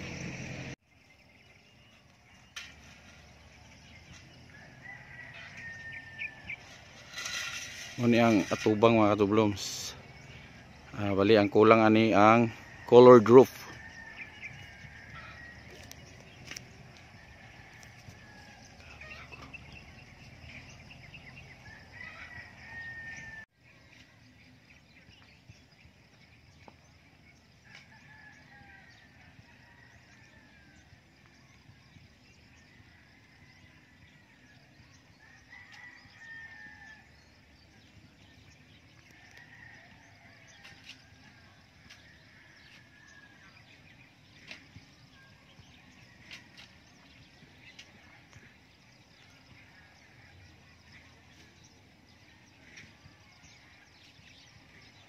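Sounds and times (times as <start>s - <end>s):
faint roosters crowing: 2.1s - 24.4s, 25.1s - 55.0s.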